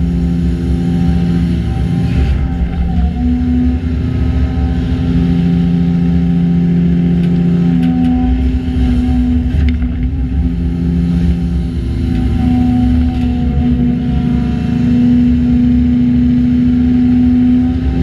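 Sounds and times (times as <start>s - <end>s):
excavator diesel engine and hydraulics: 0.0s - 18.0s.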